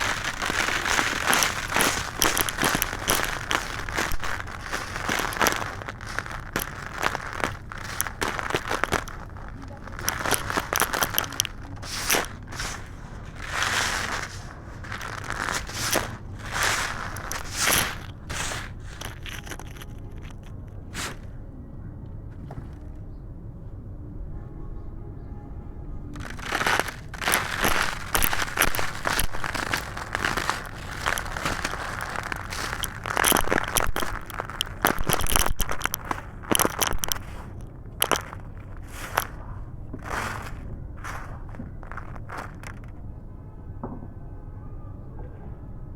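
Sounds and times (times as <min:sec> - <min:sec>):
concrete crumbling and crushing: 0:00.0 - 0:21.2, 0:26.2 - 0:42.9.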